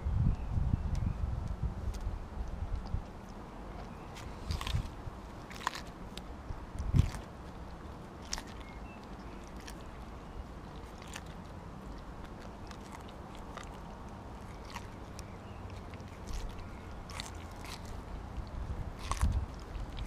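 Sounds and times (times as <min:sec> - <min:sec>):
wet chewing: 0:00.9 - 0:20.0
dog crunching bites: 0:02.8 - 0:20.0.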